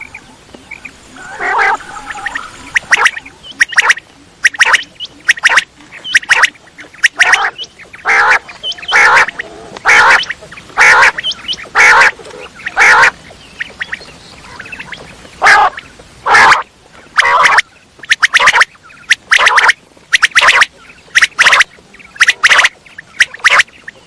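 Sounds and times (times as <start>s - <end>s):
quail calling: 0.0s - 24.0s.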